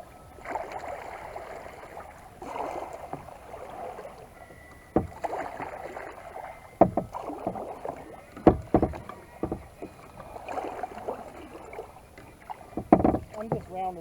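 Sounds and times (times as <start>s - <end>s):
kayak paddle strokes splashing: 0.0s - 14.0s.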